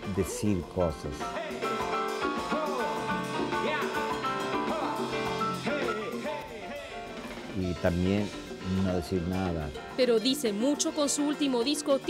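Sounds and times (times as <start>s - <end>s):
latin jazz band playing: 0.0s - 12.0s.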